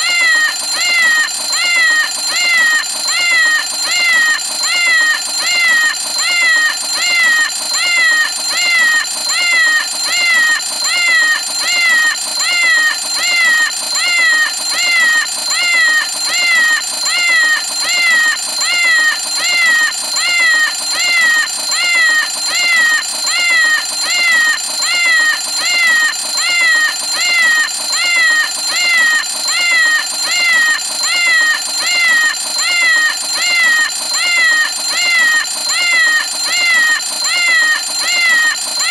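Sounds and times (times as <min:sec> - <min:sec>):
synthetic cat meow alarm: 0:00.0 - 0:38.9.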